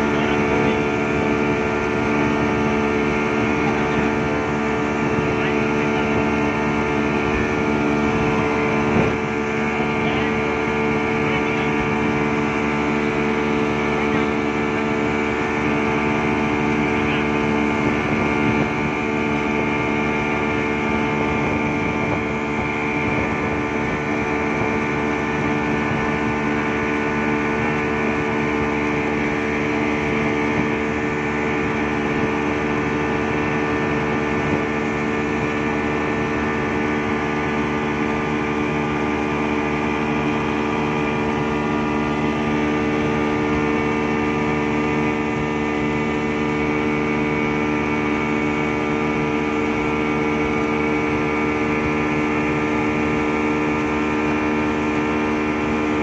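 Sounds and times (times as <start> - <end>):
outboard motor running: 0.0 - 56.0
water rushing from wake: 0.0 - 56.0.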